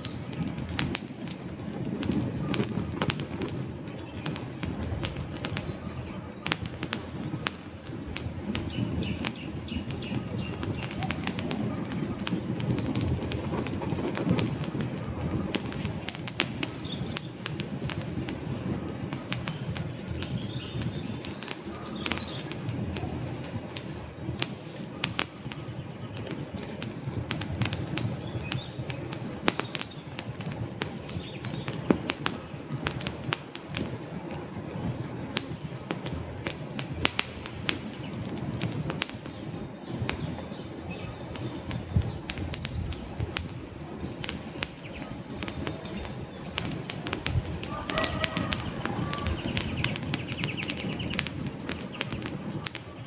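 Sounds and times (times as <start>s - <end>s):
campfire crackling and popping: 0.0s - 53.0s
low rumble of flames: 0.0s - 53.0s.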